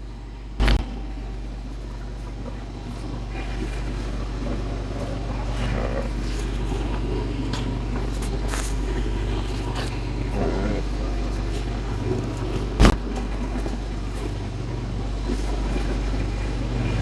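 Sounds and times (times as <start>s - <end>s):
table mechanical hum: 0.0s - 17.0s.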